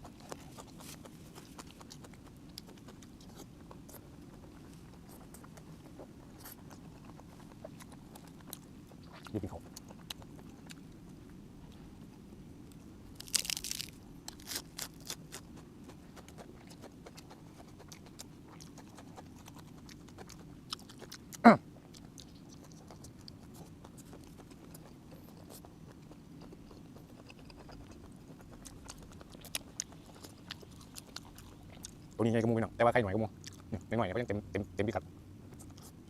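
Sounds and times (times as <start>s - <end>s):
crunchy chewing burst: 0.0s - 11.3s, 13.2s - 33.9s
person chewing food: 0.0s - 11.8s, 13.2s - 32.2s, 33.3s - 33.9s
low background hum: 0.0s - 36.0s.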